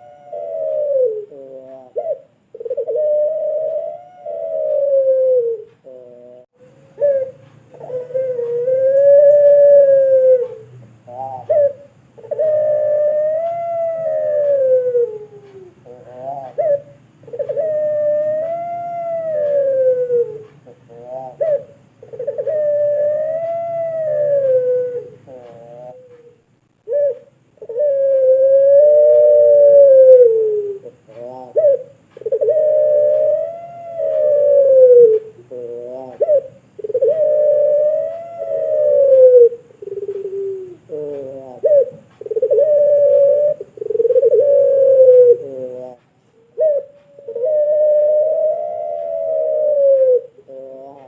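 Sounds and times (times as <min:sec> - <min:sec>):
dove cooing: 0:00.0 - 0:51.0.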